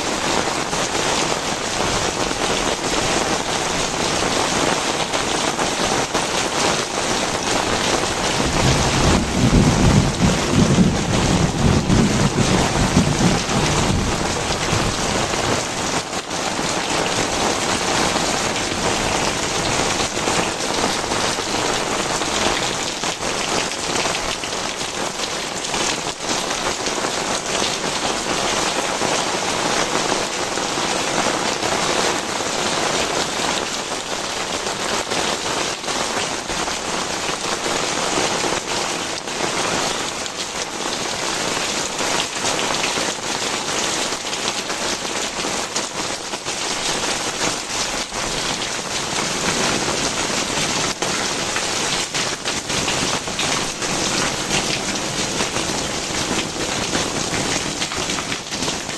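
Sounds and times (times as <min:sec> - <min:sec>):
heavy rain pouring: 0:00.0 - 0:58.9
raindrops spattering on ground: 0:00.0 - 0:58.9.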